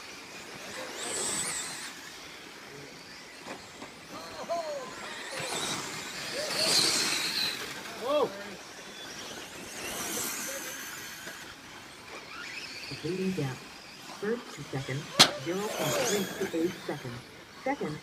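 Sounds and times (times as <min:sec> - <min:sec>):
rc truck motors whining: 0:00.0 - 0:18.0.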